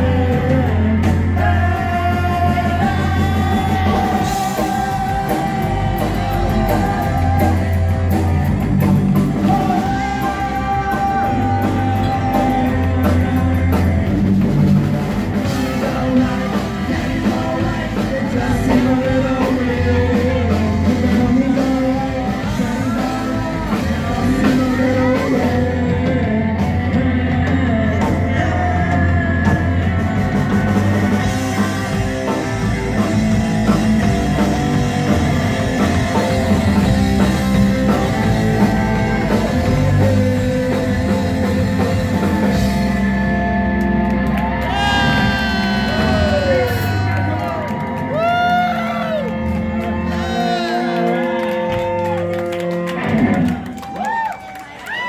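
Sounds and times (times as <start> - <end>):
person singing: 0.0 - 43.0, 44.5 - 52.4
bass guitar: 0.0 - 55.0
drum kit: 0.0 - 55.0
electric guitars: 0.0 - 55.0.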